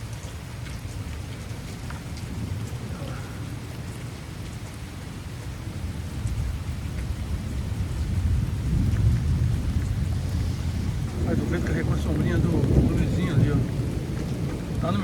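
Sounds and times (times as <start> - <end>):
heavy rain falling: 0.0 - 15.0
thunder rumbling: 0.9 - 15.0.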